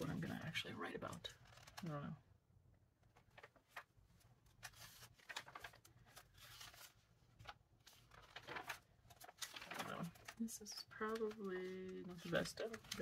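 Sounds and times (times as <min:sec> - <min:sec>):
magazine pages rustling: 0:00.0 - 0:02.2, 0:03.0 - 0:13.0.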